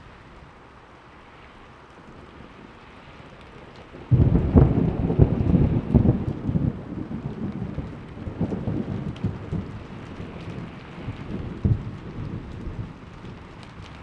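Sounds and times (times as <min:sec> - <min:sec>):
rain hissing: 0:00.0 - 0:14.0
thunder rumbling: 0:02.1 - 0:14.0.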